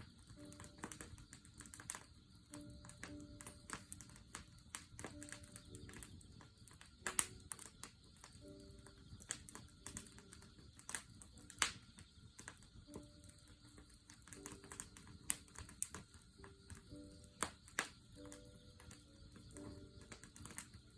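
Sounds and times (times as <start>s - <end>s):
campfire crackling and popping: 0.0s - 20.9s
grass insects chirring: 0.0s - 20.9s.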